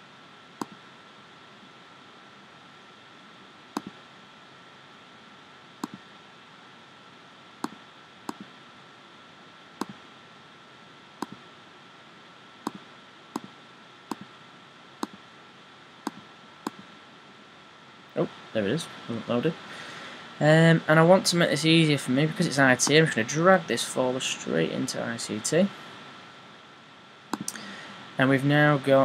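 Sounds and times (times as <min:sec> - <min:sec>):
faint high whine: 0:00.0 - 0:29.0
steady hiss: 0:00.0 - 0:29.0.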